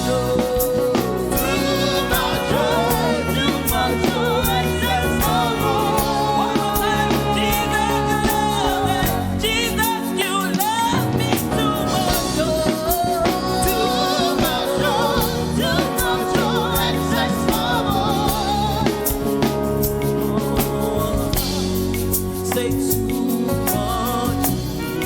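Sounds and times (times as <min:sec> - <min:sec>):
drum kit beat: 0:00.0 - 0:25.0
held keyboard chords: 0:00.0 - 0:25.0
person singing with vibrato: 0:00.0 - 0:25.0.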